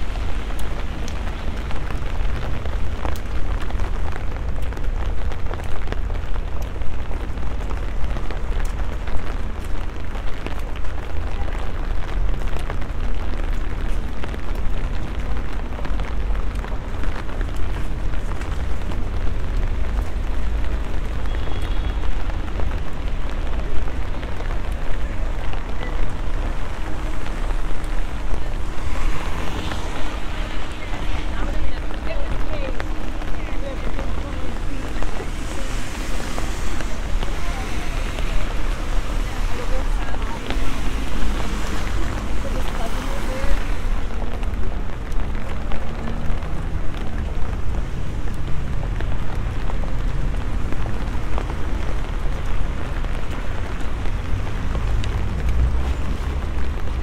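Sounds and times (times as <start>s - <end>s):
rain drops ticking on umbrella: 0.0s - 57.0s.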